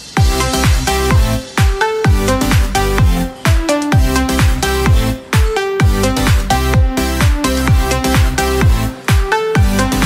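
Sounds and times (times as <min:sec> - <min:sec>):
kick drum beat: 0:00.2 - 0:10.0
sustained synth chords: 0:00.2 - 0:10.0.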